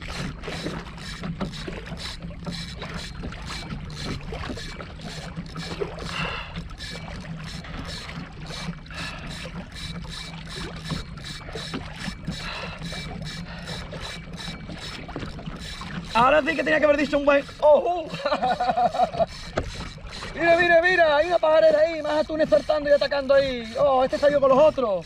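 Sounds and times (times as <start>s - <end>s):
water lapping against a hull: 0.0s - 25.0s.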